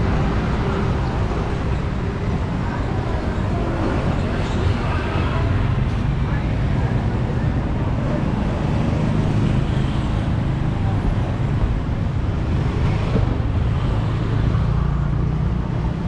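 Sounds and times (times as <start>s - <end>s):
steady road rumble: 0.0s - 16.0s.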